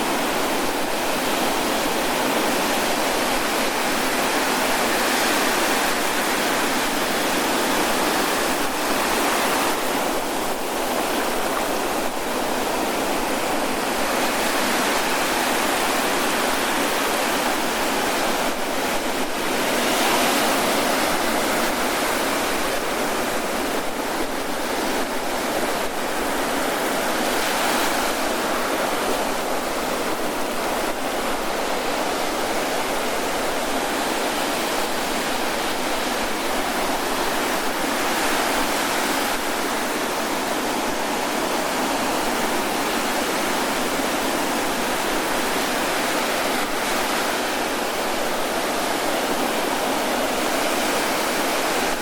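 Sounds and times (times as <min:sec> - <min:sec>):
ocean surf breaking on beach: 0:00.0 - 0:52.0.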